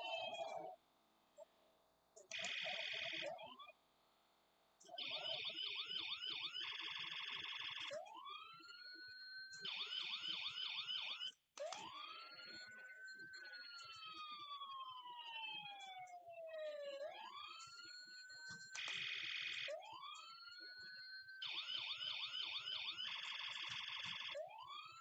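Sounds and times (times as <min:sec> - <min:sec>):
toy electronic sirens: 0:00.0 - 0:00.8, 0:02.3 - 0:03.7, 0:04.9 - 0:25.0.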